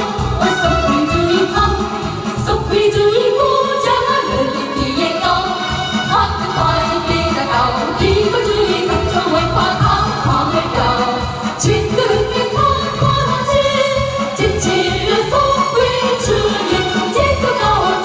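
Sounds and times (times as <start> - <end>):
amplified instrumental music: 0.0 - 18.0
women singing together: 0.0 - 18.0.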